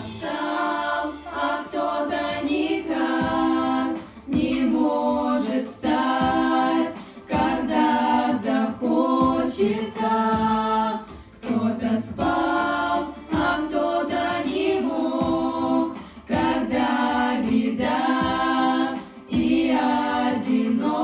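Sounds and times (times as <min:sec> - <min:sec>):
girls singing a cappella: 0:00.0 - 0:21.0.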